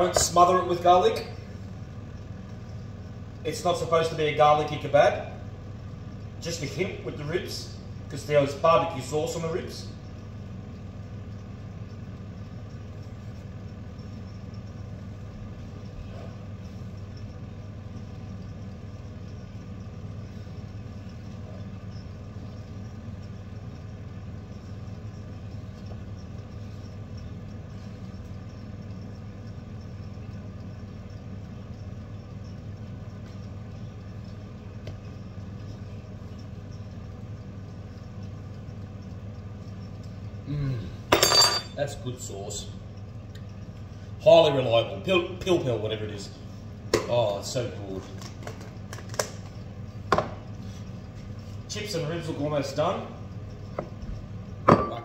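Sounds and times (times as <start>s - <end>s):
appliance fan motor humming: 0.0s - 55.0s.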